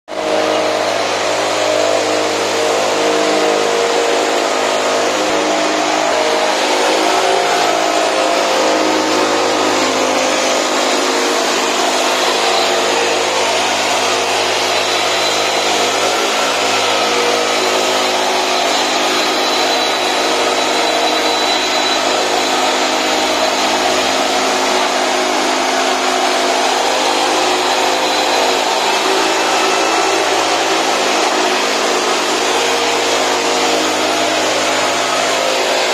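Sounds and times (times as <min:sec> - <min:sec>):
blower air noise: 0:00.1 - 0:35.9
mist blower engine running: 0:00.1 - 0:35.9.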